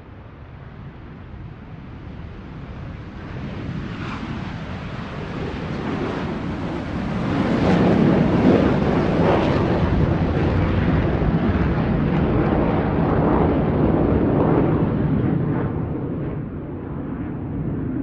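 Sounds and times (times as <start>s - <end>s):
aircraft engines rumbling at takeoff: 0.0s - 18.0s.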